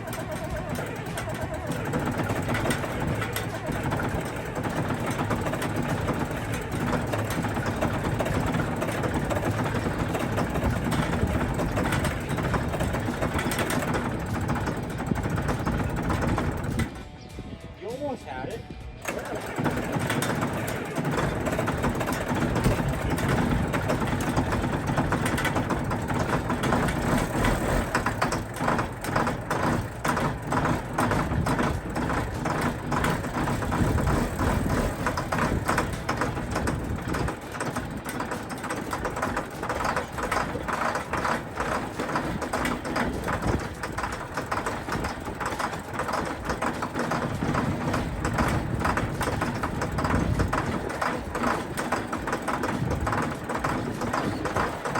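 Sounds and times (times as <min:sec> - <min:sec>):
diesel engine idling unevenly: 0:00.0 - 0:54.9.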